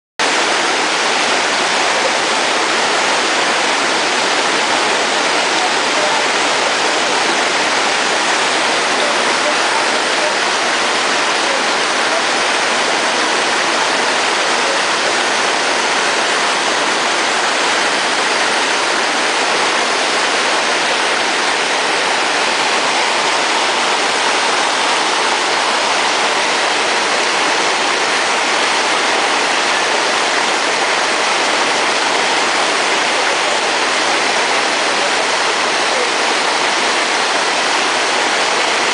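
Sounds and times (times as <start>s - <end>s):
stream flowing over stones: 0.2s - 38.9s.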